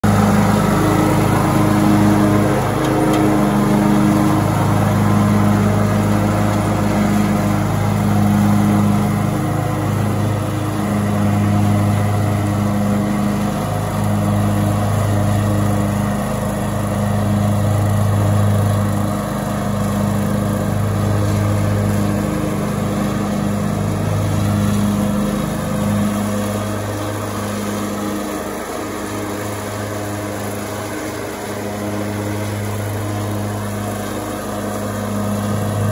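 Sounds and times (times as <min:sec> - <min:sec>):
riding lawn mower engine: 0:00.0 - 0:35.9.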